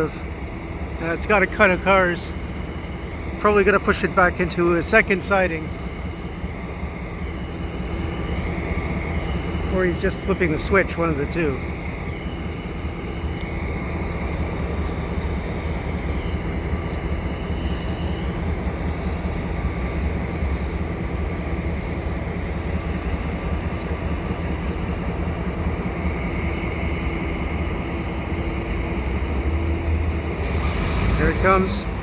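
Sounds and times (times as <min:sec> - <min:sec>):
diesel locomotives idling: 0:00.0 - 0:32.0.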